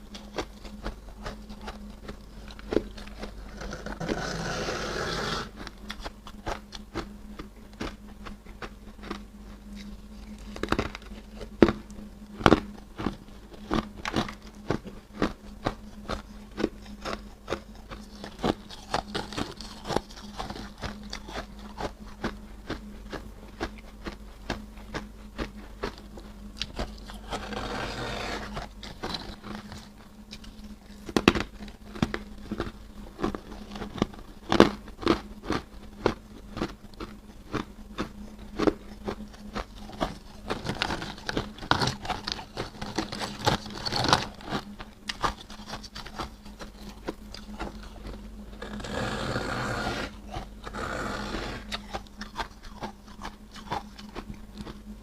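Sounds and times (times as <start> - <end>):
faint low hum: 0.0 - 55.0
frost crunching while chewed: 0.0 - 55.0.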